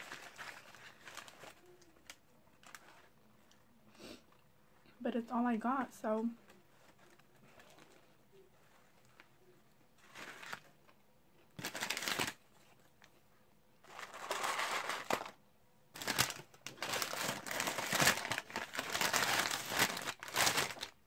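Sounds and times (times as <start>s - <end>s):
paper wrappers crinkling: 0.0s - 3.6s, 6.4s - 13.2s, 13.8s - 21.0s.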